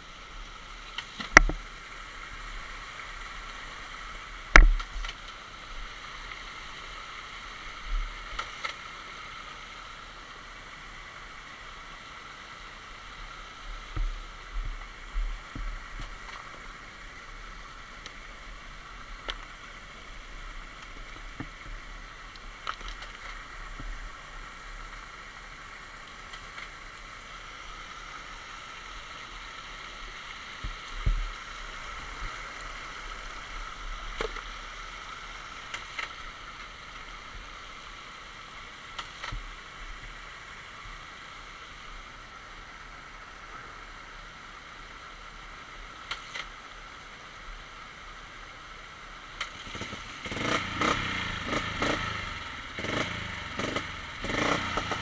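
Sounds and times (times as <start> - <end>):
creek running over stones: 0.0 - 55.0.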